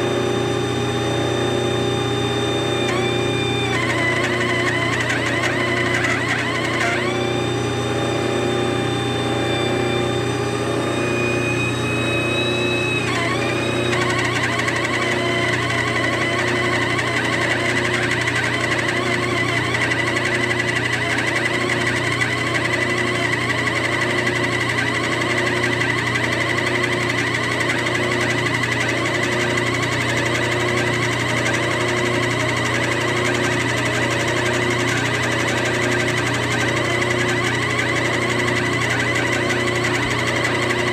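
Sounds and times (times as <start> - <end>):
grinder high whine: 0.0 - 40.9
lathe machine hum: 0.0 - 40.9.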